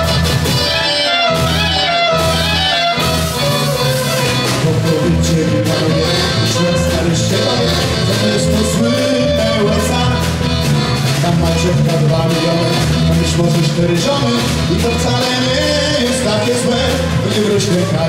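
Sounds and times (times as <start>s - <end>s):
folk band playing: 0.0s - 18.0s.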